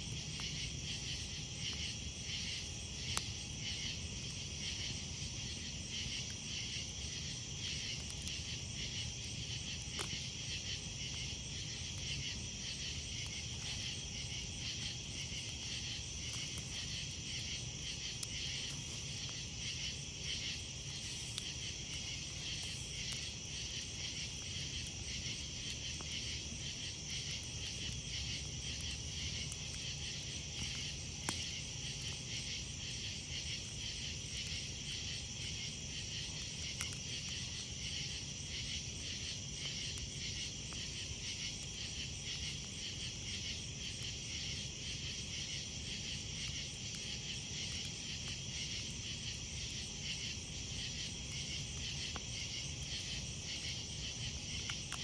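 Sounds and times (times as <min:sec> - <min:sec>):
campfire crackling: 0:00.0 - 0:55.0
insects chirping: 0:00.0 - 0:55.0.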